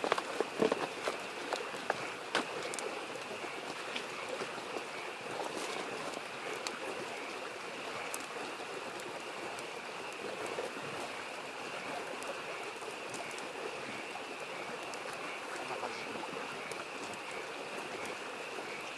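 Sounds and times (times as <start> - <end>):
campfire crackling: 0.0 - 18.9
frog chorus: 0.0 - 18.9
stream babbling: 0.0 - 18.9.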